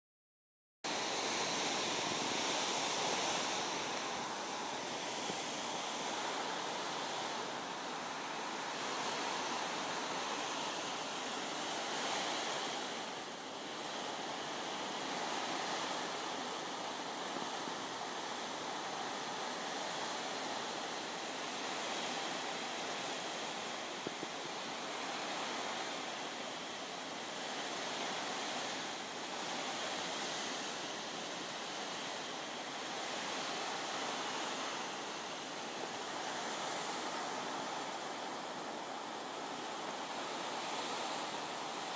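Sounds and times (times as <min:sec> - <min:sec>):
rain: 0:00.9 - 0:41.9.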